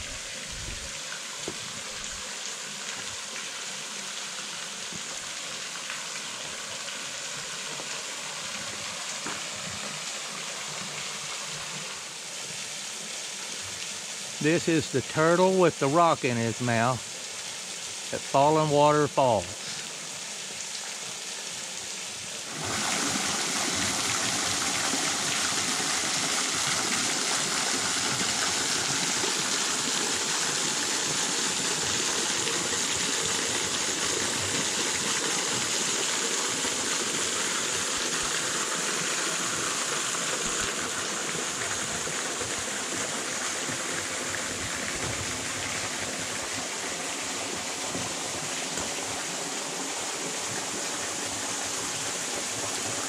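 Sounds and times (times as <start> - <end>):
waterfall pouring: 0.0 - 53.0.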